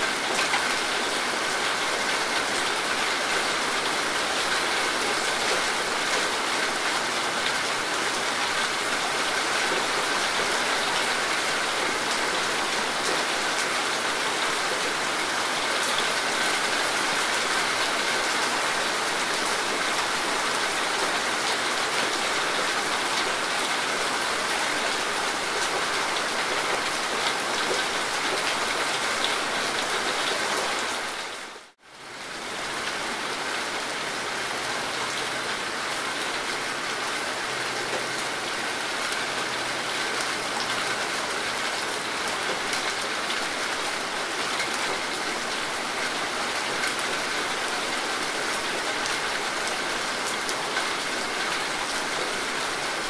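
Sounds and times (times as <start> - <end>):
rain falling on leaves: 0.0 - 53.0.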